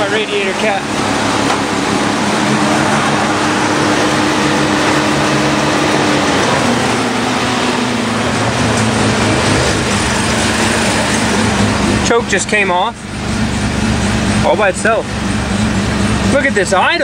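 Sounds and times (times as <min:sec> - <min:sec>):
rotary engine idling: 0:00.0 - 0:17.0.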